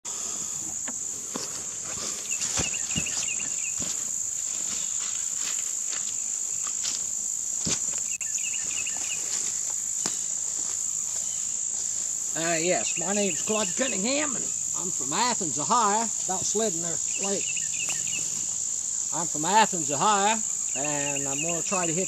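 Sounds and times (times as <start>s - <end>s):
insects trilling: 0.1s - 22.0s.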